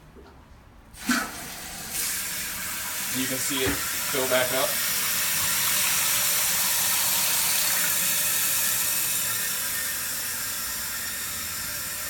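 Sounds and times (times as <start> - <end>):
toilet tank refilling: 1.0 - 12.0.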